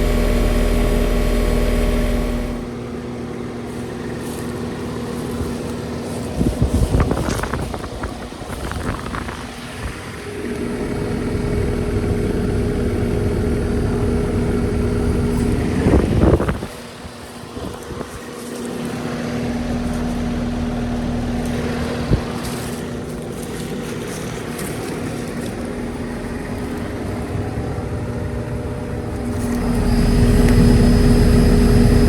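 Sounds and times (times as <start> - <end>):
air conditioner electrical hum: 0.0 - 32.0
fan rush: 0.0 - 32.0.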